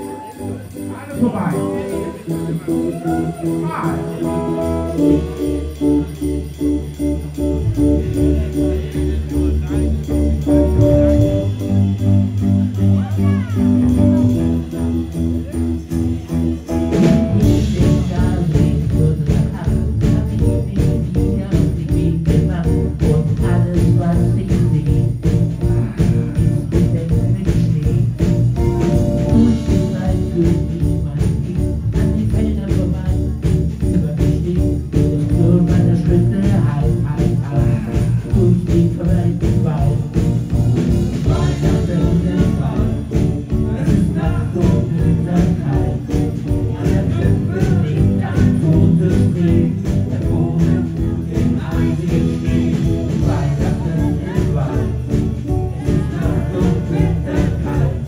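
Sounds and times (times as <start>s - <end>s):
live band playing: 0.0s - 58.0s
sleigh bells shaking in rhythm: 0.0s - 58.0s.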